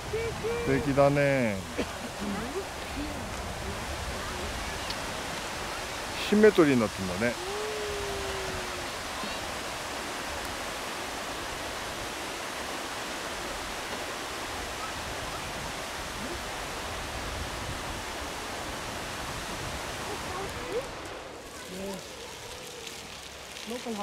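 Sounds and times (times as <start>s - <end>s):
water rushing through channel: 0.0s - 24.0s.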